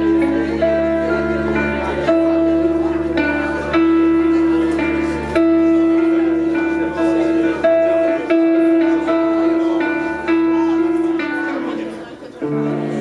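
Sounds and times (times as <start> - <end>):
live band instrumental music: 0.0 - 13.0.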